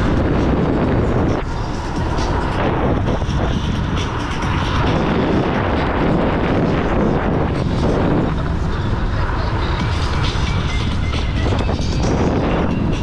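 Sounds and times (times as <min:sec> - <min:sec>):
road noise: 0:00.0 - 0:13.0
wind rumble on microphone: 0:00.0 - 0:13.0.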